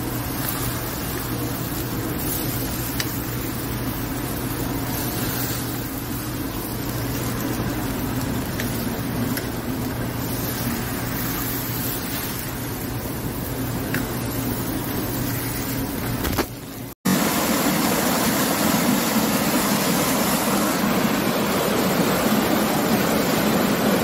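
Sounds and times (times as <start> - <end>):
fat flaring with crackles: 0.0 - 24.0
meat sizzling on grill: 0.0 - 24.0.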